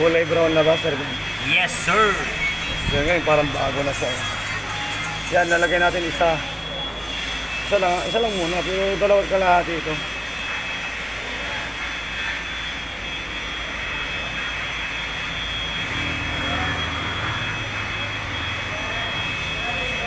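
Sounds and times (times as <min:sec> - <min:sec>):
low engine-like drone: 0:00.0 - 0:20.0
machinery high whine: 0:00.0 - 0:20.0.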